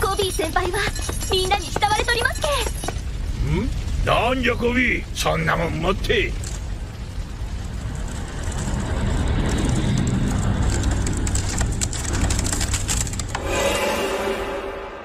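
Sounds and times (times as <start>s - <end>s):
ice freezing grinding crackle: 0.0s - 14.8s.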